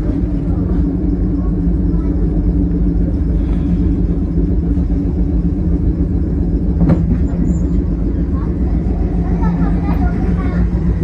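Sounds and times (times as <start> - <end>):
electric train equipment humming: 0.0 - 11.0.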